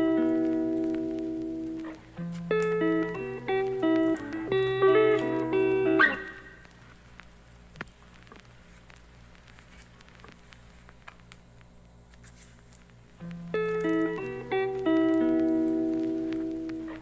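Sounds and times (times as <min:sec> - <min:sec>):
plastic sleeves rustling: 0:00.0 - 0:17.0.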